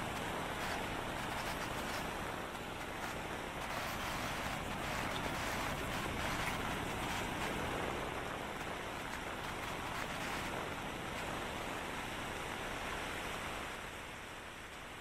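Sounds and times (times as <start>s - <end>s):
traffic on wet road: 0.0s - 13.9s.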